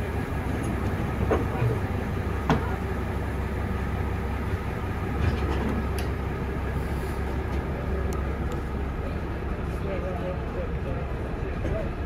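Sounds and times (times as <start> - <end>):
train rumbling slowly: 0.0 - 12.0.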